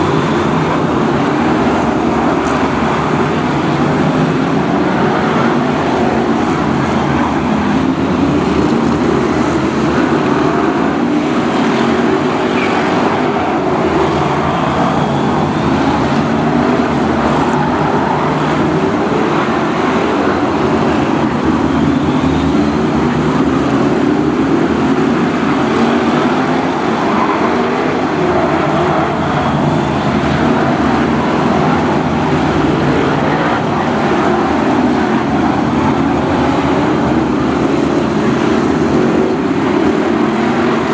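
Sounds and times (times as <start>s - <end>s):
race car engines revving: 0.0s - 40.9s.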